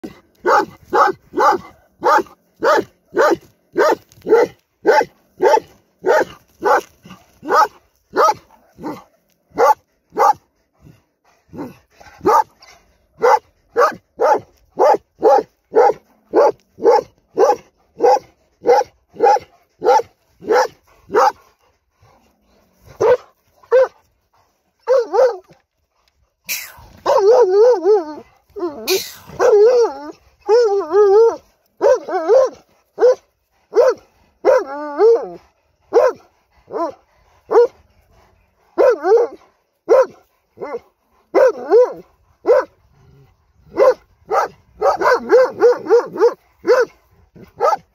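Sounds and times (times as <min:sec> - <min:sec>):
dog barking: 0:00.0 - 0:10.5, 0:11.5 - 0:21.5, 0:22.9 - 0:24.0, 0:24.8 - 0:25.6, 0:27.0 - 0:28.2, 0:28.9 - 0:37.8, 0:38.8 - 0:42.8, 0:43.7 - 0:47.9.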